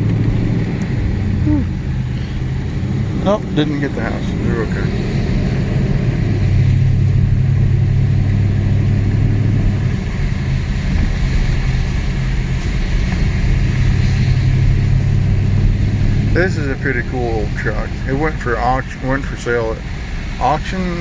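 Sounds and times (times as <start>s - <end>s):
road and tyre noise: 0.0s - 21.0s
truck engine hum: 0.0s - 21.0s.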